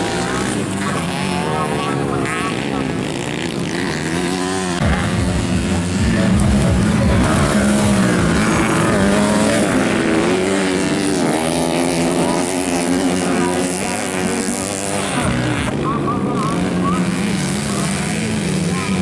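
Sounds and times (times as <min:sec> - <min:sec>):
dirt bike engines racing: 0:00.0 - 0:19.0.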